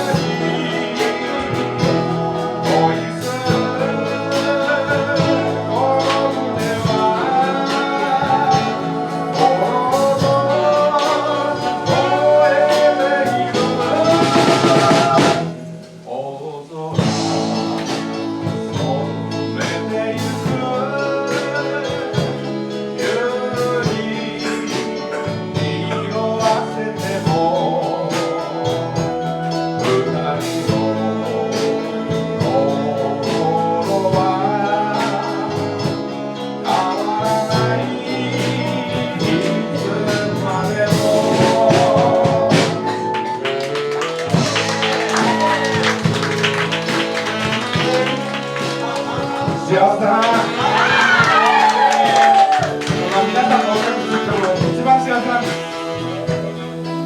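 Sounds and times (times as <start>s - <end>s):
drums: 0.0s - 57.0s
guitar: 0.0s - 57.0s
person singing with vibrato: 0.0s - 57.0s.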